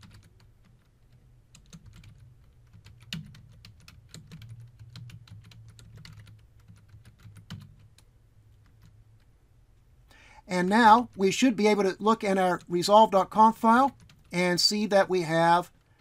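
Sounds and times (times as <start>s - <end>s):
keyboard typing: 0.0s - 9.4s, 12.0s - 16.0s
low steady hum: 0.0s - 16.0s.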